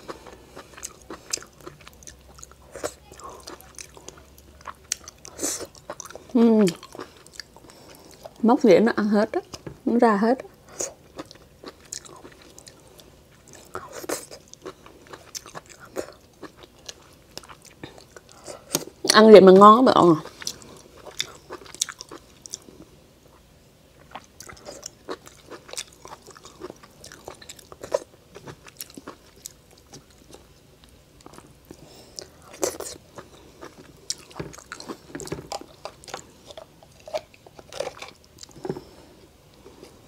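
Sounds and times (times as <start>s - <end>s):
chewing: 0.0s - 8.4s, 10.6s - 18.9s, 20.2s - 23.4s, 24.0s - 40.0s.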